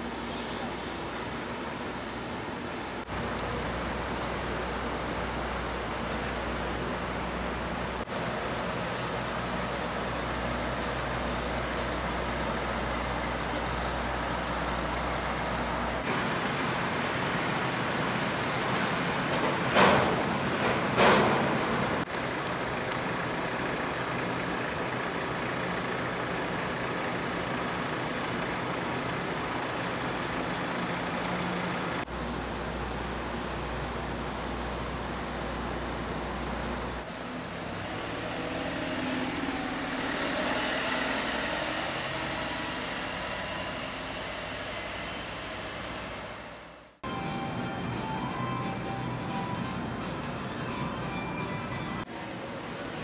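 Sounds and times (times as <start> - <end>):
hum of engines and machinery: 0.0 - 53.0.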